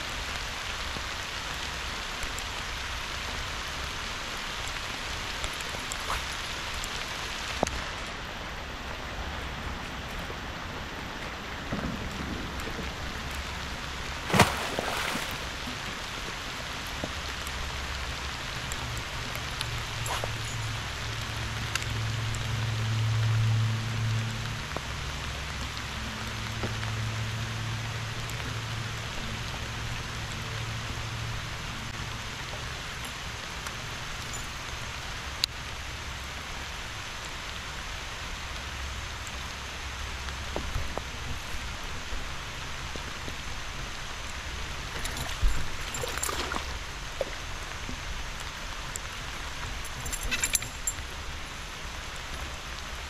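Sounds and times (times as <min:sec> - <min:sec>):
light rain on river: 0:00.0 - 0:53.0.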